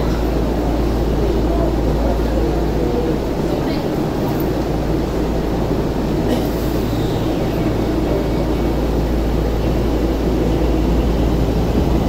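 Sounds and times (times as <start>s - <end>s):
subway train motors humming: 0.0s - 12.0s.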